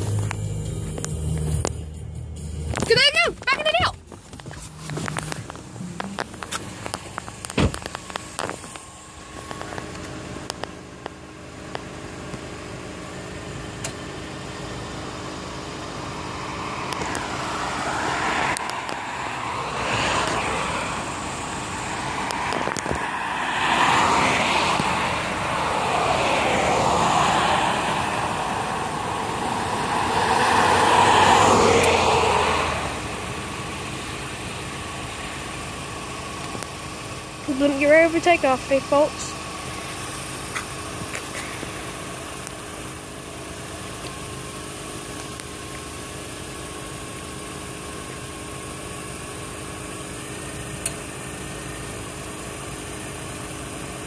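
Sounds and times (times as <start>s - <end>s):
cars driving past: 0.0s - 44.8s.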